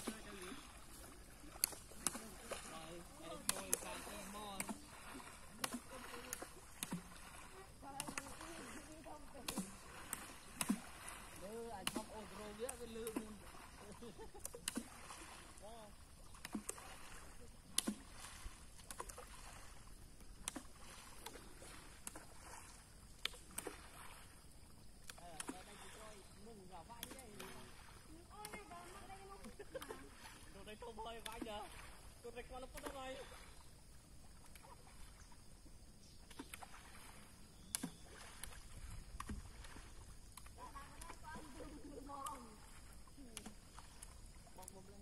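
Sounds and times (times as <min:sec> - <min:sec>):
water splashing and sloshing: 0:00.0 - 0:45.0.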